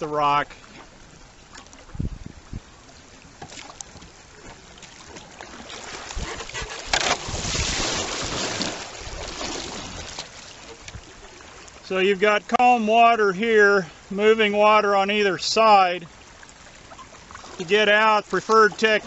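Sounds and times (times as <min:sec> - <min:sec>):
kayak paddle strokes: 0:00.0 - 0:12.8, 0:15.3 - 0:19.0
river water splashing and rushing: 0:00.0 - 0:19.0.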